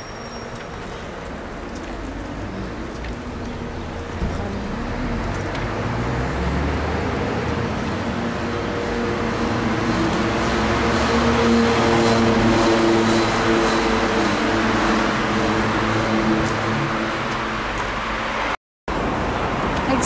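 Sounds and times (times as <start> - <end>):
road traffic: 0.0 - 20.0
approaching vehicle engine hum: 0.8 - 18.6.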